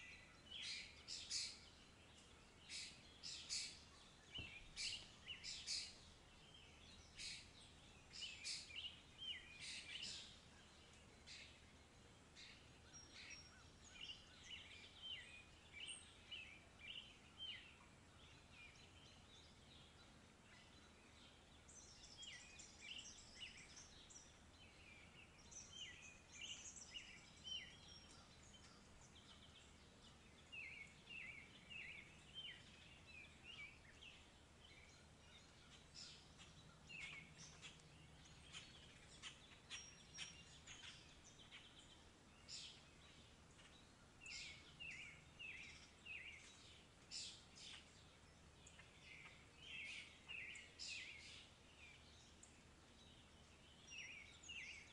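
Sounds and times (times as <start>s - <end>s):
birds chirping: 0.0s - 54.9s
low steady background noise: 0.0s - 54.9s.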